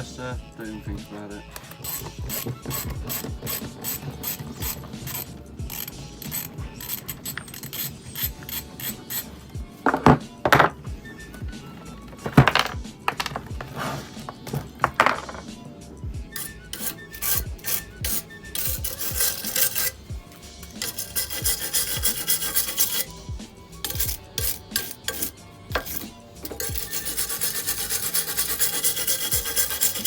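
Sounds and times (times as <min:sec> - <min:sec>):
hand tool rasping and scraping: 0:01.5 - 0:10.2, 0:12.1 - 0:15.4, 0:16.3 - 0:30.0.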